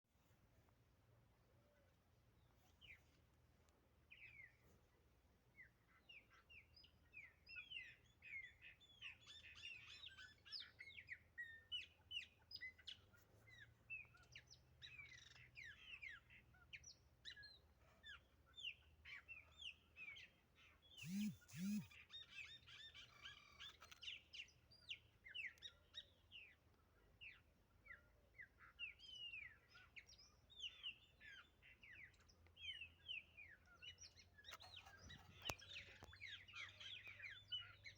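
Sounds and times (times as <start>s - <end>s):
blackbirds singing: 4.1s - 4.6s, 5.5s - 37.9s.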